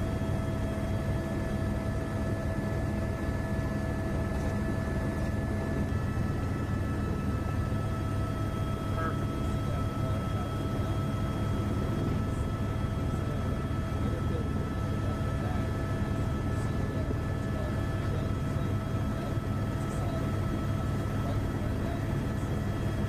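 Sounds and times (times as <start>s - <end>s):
aircraft cabin engine drone: 0.0s - 23.0s
steady whining tones: 0.0s - 23.0s.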